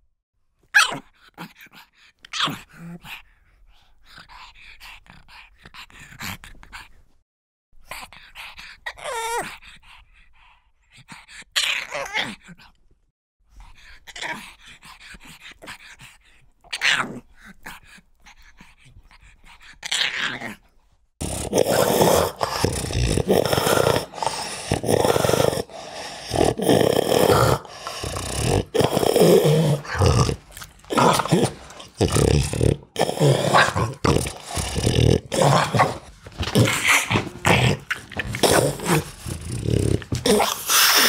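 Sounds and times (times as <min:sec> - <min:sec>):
dog groaning and snarling: 0:00.8 - 0:03.3, 0:07.9 - 0:10.1, 0:10.9 - 0:12.7, 0:13.8 - 0:41.0.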